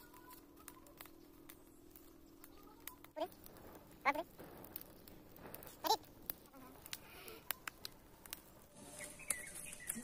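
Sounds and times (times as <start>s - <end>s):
fire crackling and snapping: 0.0s - 10.0s.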